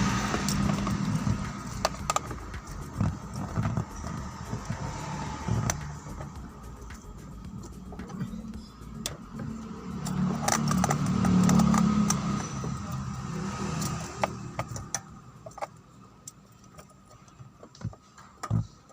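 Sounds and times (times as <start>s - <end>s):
engine rumbling: 0.0s - 18.9s
metallic clinks and clicks: 0.0s - 18.9s.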